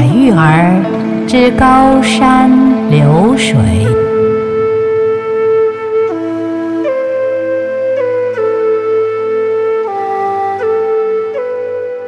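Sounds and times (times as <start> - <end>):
flute holding long note: 0.7 - 12.0.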